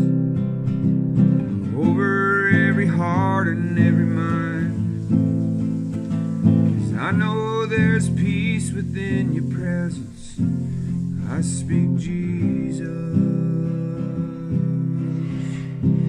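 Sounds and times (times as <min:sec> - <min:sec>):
acoustic guitar strumming: 0:00.0 - 0:16.0
man singing: 0:01.5 - 0:16.0.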